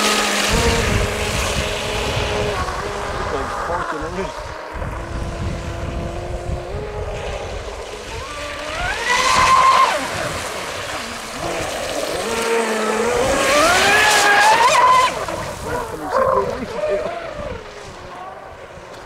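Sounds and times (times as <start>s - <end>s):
rc speedboat motor whine: 0.0s - 19.0s.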